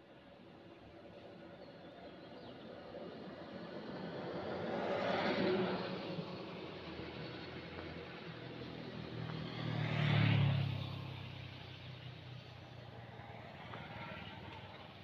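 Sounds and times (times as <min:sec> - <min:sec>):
engine passing by: 0:03.0 - 0:15.0.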